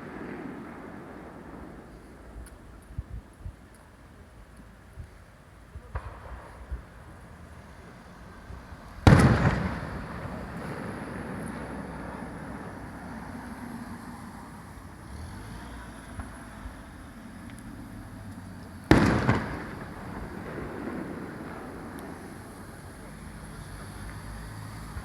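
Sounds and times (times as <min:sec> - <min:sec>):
fireworks bangs with echo: 0:00.0 - 0:03.7, 0:05.8 - 0:14.8, 0:15.6 - 0:17.0, 0:18.8 - 0:25.0.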